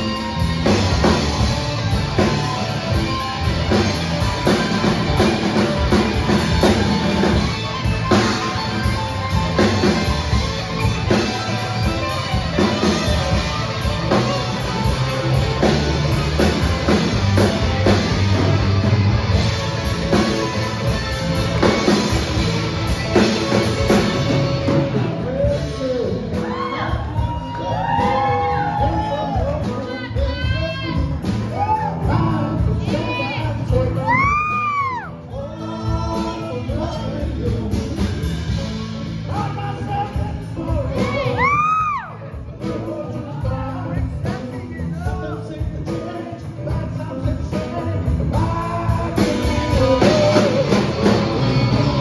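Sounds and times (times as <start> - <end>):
bass guitar: 0.0 - 52.0
drum kit: 0.0 - 52.0
electric guitars: 0.0 - 52.0.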